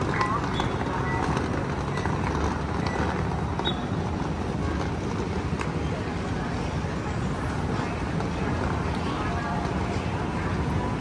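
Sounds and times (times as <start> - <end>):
passers-by voices: 0.0 - 11.0
road traffic: 0.0 - 11.0.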